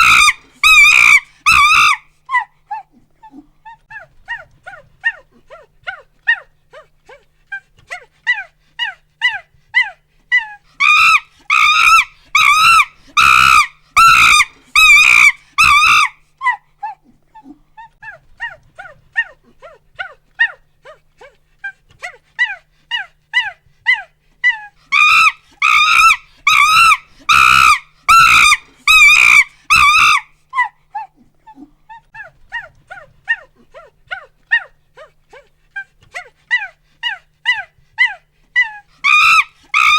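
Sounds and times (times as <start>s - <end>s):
chimpanzee pant-hoots and screams: 0.0s - 39.9s.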